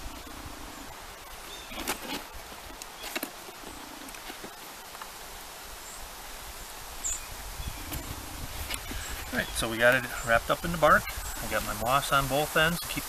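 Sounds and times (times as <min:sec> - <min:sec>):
dry bark rustling and crackling: 0:00.0 - 0:13.0
outdoor background hiss: 0:00.0 - 0:13.0.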